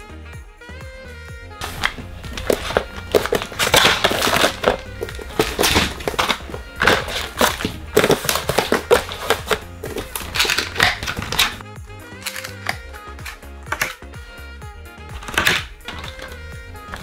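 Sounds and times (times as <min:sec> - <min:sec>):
hard plastic parts clicking: 0:01.6 - 0:11.6, 0:12.2 - 0:14.0, 0:15.1 - 0:17.0
plastic crinkling: 0:01.6 - 0:11.6, 0:12.2 - 0:14.0, 0:15.2 - 0:17.0.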